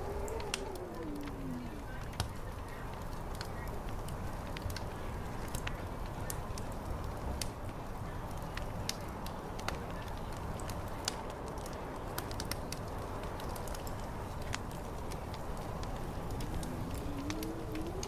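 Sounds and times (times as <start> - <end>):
fire crackling: 0.0 - 18.0
low rumble of wind: 0.0 - 18.0.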